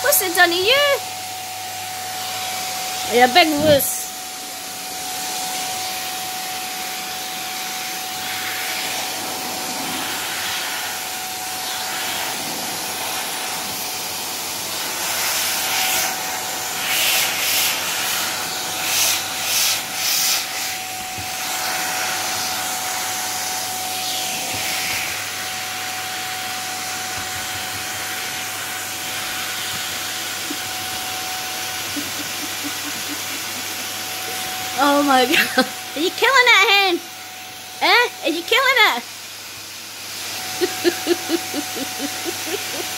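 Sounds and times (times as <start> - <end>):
vacuum cleaner motor whine: 0.0 - 42.9.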